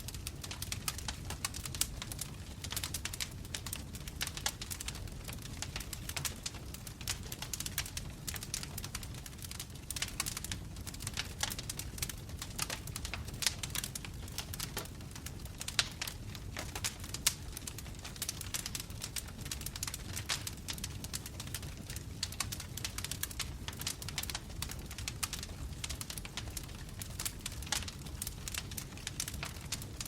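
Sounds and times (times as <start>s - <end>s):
low rumble of burning logs: 0.0s - 30.0s
wood fire crackling: 0.0s - 30.0s
pops and snaps of fire: 0.1s - 30.0s.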